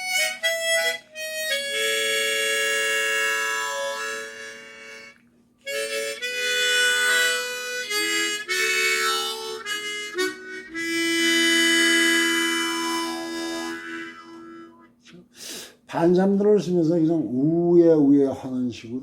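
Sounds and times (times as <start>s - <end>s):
harmonica playing slow melody: 0.0s - 15.7s.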